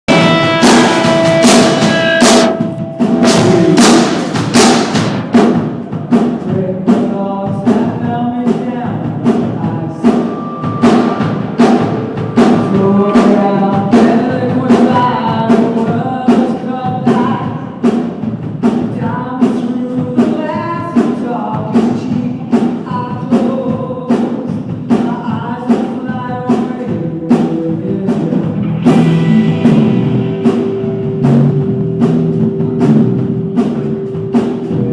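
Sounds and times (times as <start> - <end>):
person singing: 0.1 - 4.3, 6.4 - 17.7, 18.8 - 31.5
drum-kit beat: 0.1 - 34.9
pop-rock band playing live: 0.1 - 34.9.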